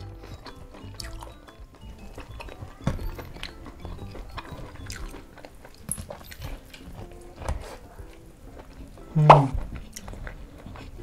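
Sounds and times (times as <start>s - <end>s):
biting and chewing: 0.0s - 11.0s
crispy food crackling: 0.0s - 11.0s
faint background music: 0.0s - 11.0s.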